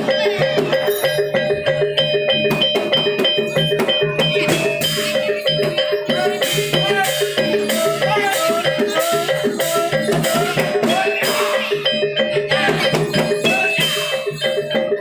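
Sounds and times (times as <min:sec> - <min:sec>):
drums and percussion: 0:00.0 - 0:15.0
metallophones playing: 0:00.0 - 0:15.0.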